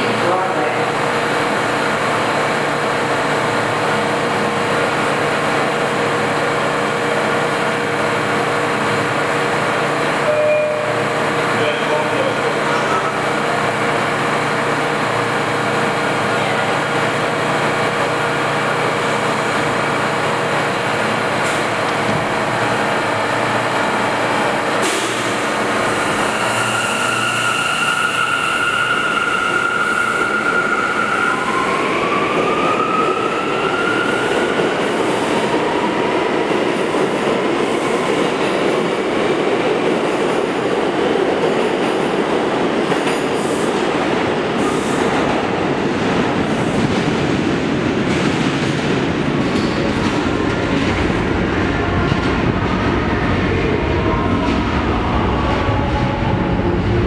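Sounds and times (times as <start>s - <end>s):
subway train humming: 0.0s - 57.0s.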